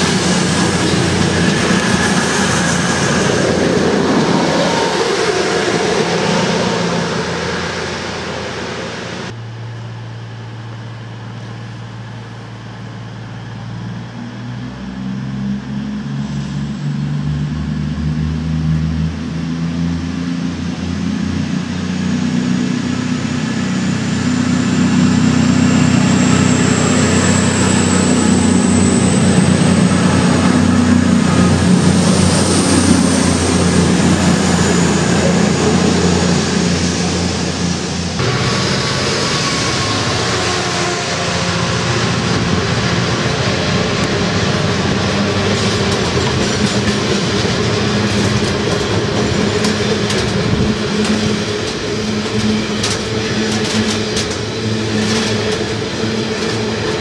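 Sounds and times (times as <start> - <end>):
diesel locomotive hauling freight: 0.0 - 57.0
diesel train engines droning: 0.0 - 57.0.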